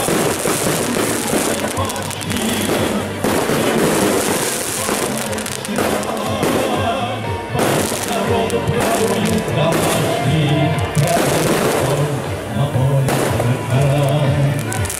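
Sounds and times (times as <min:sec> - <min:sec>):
fireworks popping and crackling: 0:00.0 - 0:14.9
music playing: 0:00.0 - 0:14.9.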